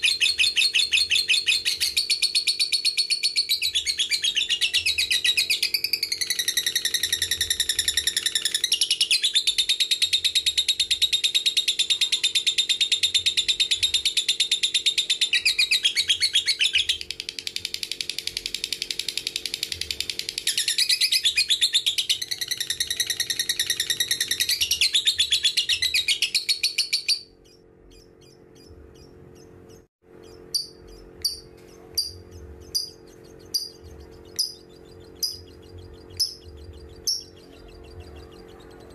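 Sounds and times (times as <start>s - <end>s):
bird chattering trill: 0.0s - 38.9s
bird chirps: 0.0s - 38.9s.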